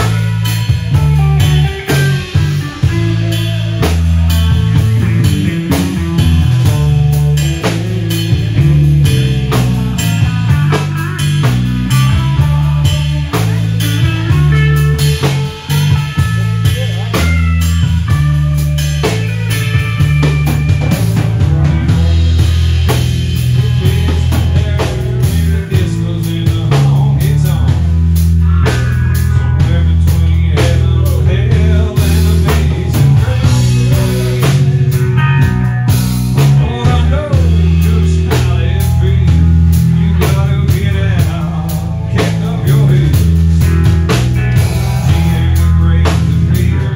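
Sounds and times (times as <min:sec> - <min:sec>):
bass guitar: 0:00.0 - 0:46.9
drum kit beat: 0:00.0 - 0:46.9
guitar: 0:00.0 - 0:46.9.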